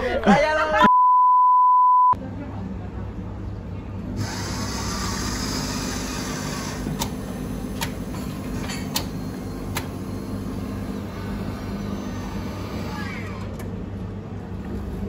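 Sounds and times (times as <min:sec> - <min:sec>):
vending machine hum: 0:02.2 - 0:15.0.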